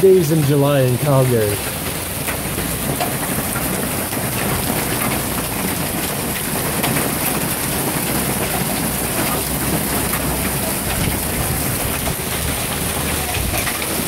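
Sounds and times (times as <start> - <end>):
hail and rain falling: 0.0 - 14.0.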